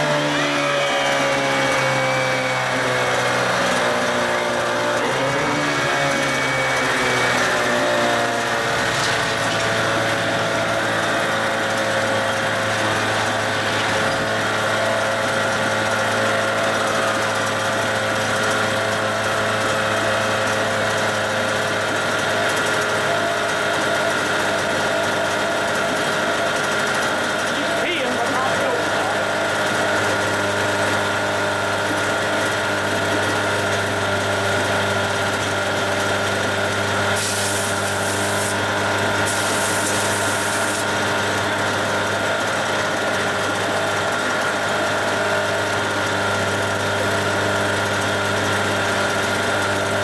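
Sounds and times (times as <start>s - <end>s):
outboard motor running: 0.0s - 50.0s.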